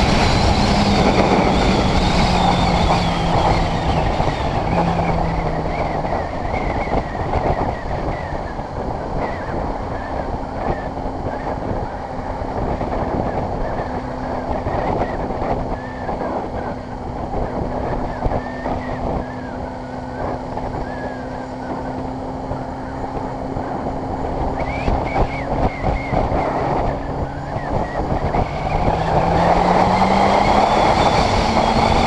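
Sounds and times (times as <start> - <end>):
motorcycle engine cruising: 0.0 - 32.0
wind buffeting microphone: 0.0 - 32.0.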